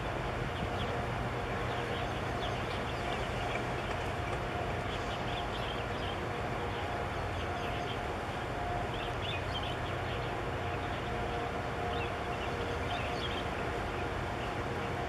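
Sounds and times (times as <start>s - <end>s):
faint hum: 0.0s - 15.0s
ship engine rumble: 0.0s - 15.0s.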